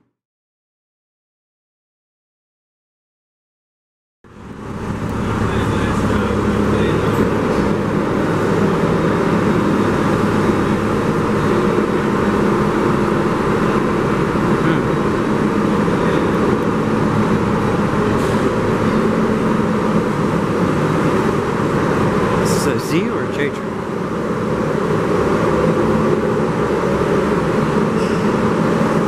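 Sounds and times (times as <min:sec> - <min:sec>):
subway train wheels rumbling on rails: 0:04.3 - 0:29.0.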